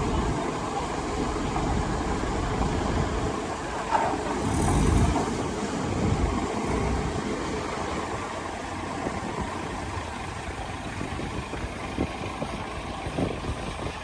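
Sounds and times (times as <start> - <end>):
heavy machinery rumbling: 0.0 - 14.0.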